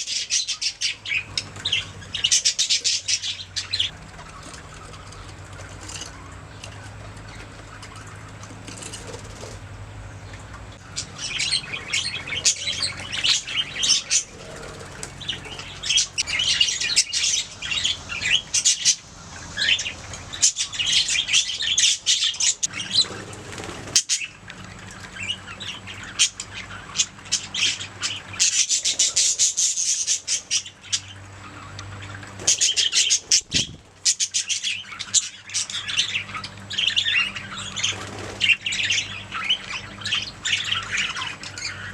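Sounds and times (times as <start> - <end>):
budgerigars chattering and chirping: 0.0 - 41.9.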